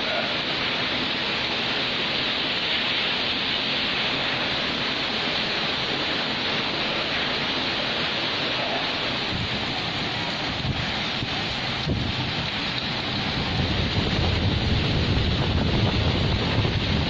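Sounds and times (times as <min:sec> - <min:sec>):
heavy rain: 0:00.0 - 0:17.0
strong wind: 0:00.0 - 0:17.0.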